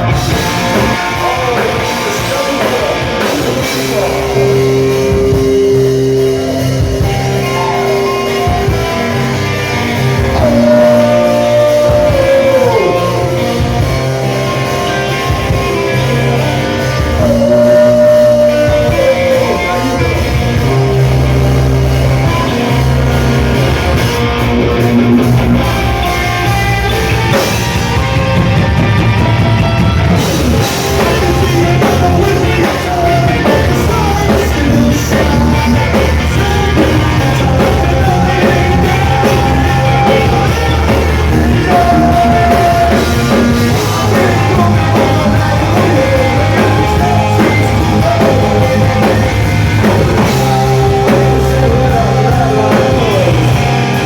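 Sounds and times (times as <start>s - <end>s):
person singing: 0.0s - 9.6s, 10.2s - 22.8s, 30.2s - 54.0s
live rock band playing: 0.0s - 54.0s.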